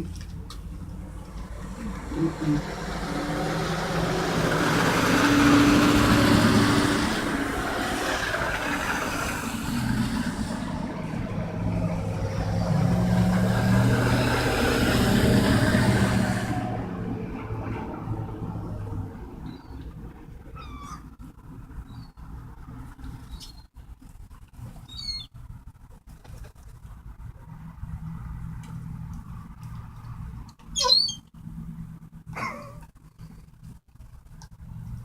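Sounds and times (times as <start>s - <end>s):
vehicles passing on road: 0.0s - 35.0s.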